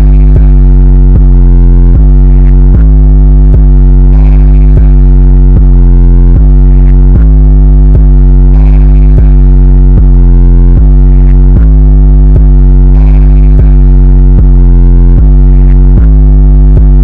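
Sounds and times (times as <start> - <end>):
distorted electronic music loop: 0.0 - 17.0.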